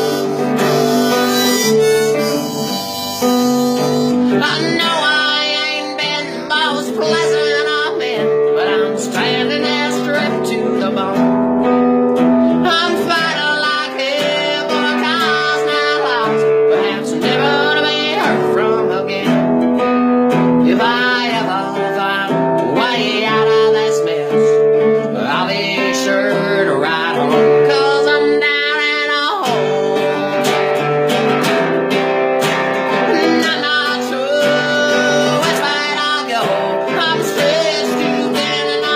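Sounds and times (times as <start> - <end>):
person singing: 0.0 - 19.6, 20.3 - 38.9
acoustic guitar: 0.0 - 38.9.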